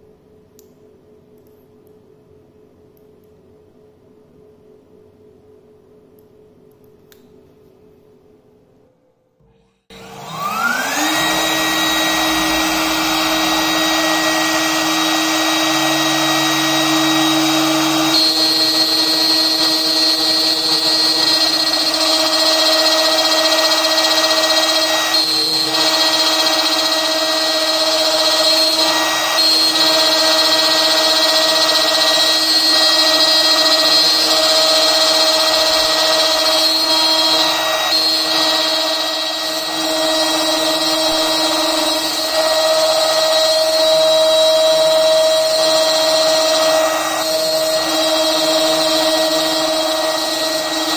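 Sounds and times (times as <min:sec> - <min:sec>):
router spindle whine: 0:09.5 - 0:50.9
end mill cutting plastic: 0:09.9 - 0:50.9.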